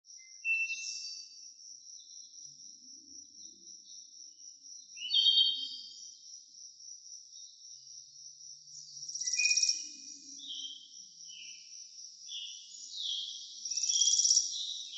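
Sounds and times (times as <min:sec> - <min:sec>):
crickets trilling: 0:00.1 - 0:14.9.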